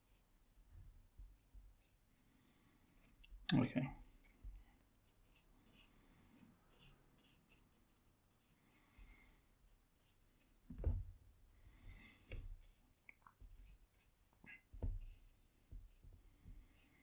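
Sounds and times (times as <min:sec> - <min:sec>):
paintbrush scratching on paper: 0:00.0 - 0:03.2, 0:04.0 - 0:17.0.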